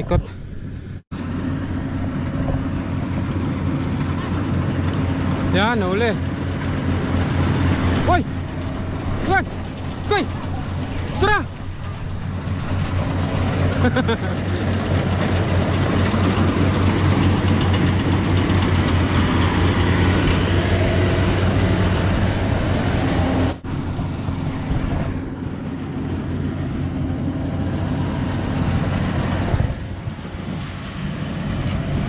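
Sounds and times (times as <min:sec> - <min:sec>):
combine harvester engine drone: 0:00.0 - 0:32.0.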